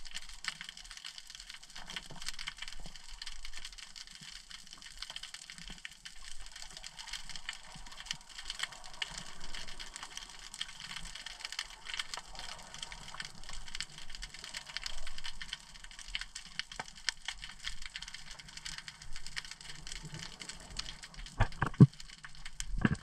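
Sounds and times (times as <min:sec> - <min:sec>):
underwater crackle of fine clicks: 0:00.0 - 0:23.0.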